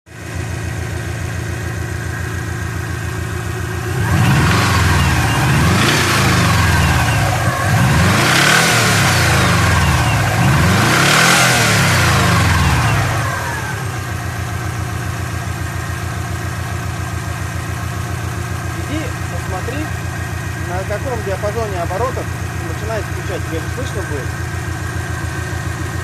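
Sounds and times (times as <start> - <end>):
car engine idling and revving: 0.1 - 26.0.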